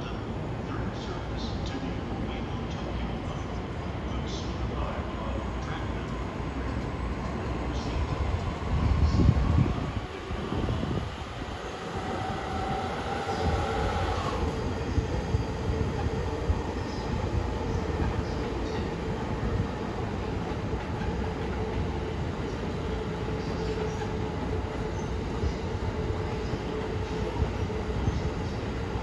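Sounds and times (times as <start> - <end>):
electric train hum: 0.0 - 29.0
train wheels rumbling on rail: 0.0 - 29.0.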